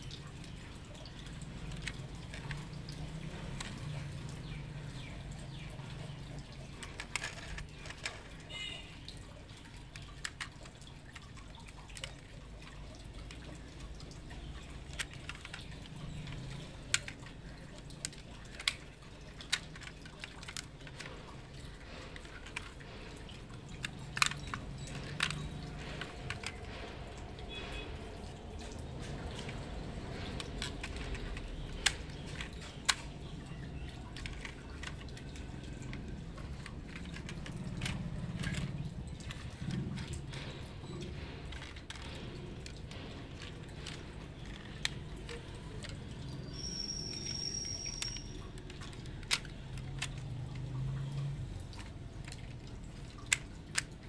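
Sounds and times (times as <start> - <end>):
toy vehicles clicking: 0.0 - 54.0.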